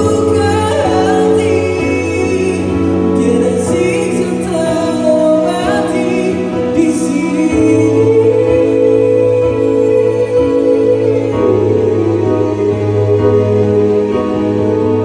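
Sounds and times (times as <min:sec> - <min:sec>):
electric keyboard chords: 0:00.0 - 0:15.0
person singing slow song: 0:00.0 - 0:15.0.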